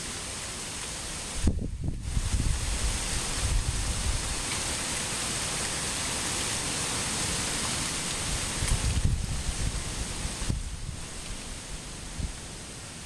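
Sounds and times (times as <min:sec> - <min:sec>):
wind blowing: 0:00.0 - 0:13.0
wind gusts rumbling on microphone: 0:01.3 - 0:13.0.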